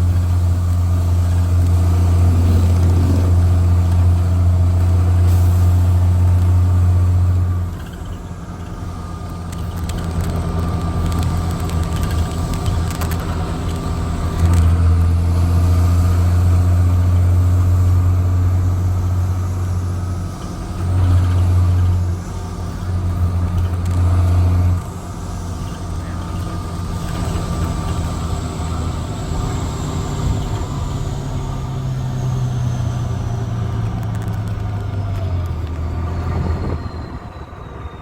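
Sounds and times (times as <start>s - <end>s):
bus diesel engine with throaty exhaust: 0.0s - 38.0s.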